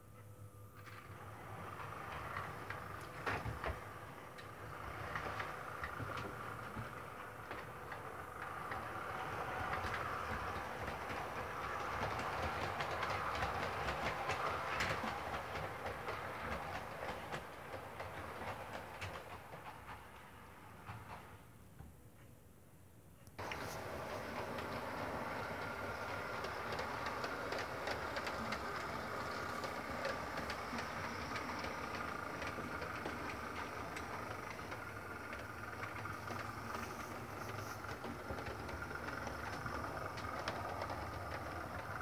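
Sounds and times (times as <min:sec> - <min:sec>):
model train running on track: 0:00.8 - 0:21.5, 0:23.4 - 0:42.0
wheels clicking over rail joints: 0:01.0 - 0:21.4, 0:23.4 - 0:42.0.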